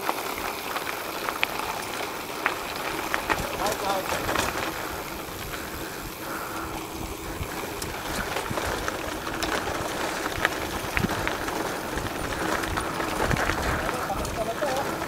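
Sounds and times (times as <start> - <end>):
bike tyres rolling on dirt: 0.0 - 15.0
sharp clicks and rattles: 0.0 - 15.0
wind buffeting microphone: 2.6 - 15.0.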